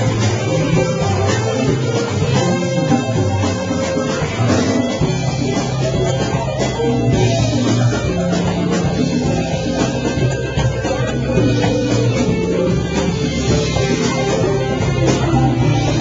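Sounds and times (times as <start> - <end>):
drum kit: 0.0 - 16.0
electric guitar: 0.0 - 16.0
keyboards: 0.0 - 16.0.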